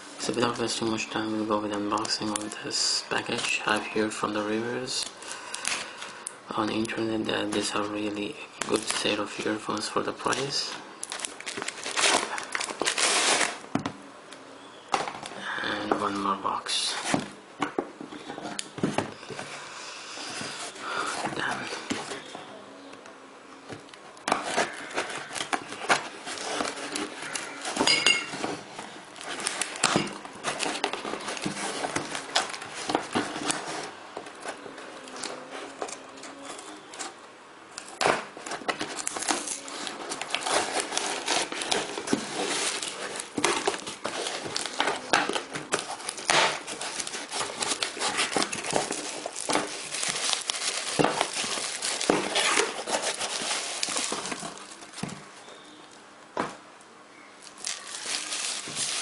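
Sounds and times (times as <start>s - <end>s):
plastic and paper crinkling: 0.2s - 13.7s, 20.3s - 22.6s, 23.8s - 37.2s, 37.8s - 56.0s, 57.4s - 59.0s.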